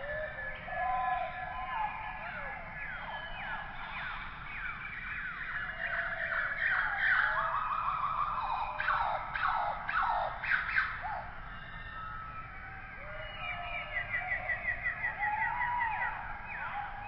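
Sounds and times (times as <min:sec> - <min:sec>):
chorus of animal calls: 0:00.0 - 0:17.0.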